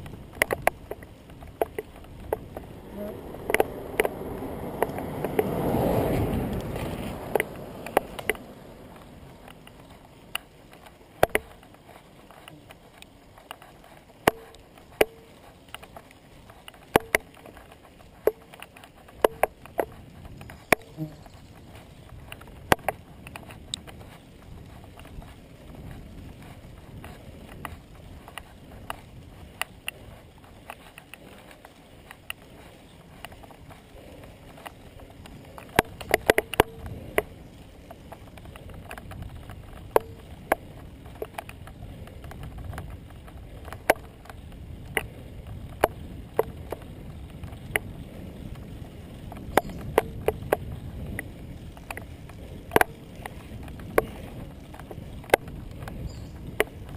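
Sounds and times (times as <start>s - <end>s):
bicycle clicks and rattles: 0.0s - 56.9s
bicycle tyres and wind rumble: 0.0s - 56.9s.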